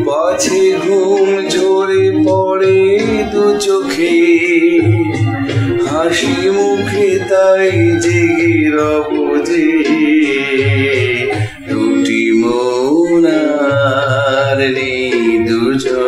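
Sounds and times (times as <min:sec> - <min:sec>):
instrumental backing music: 0:00.0 - 0:16.0
man singing: 0:00.0 - 0:16.0.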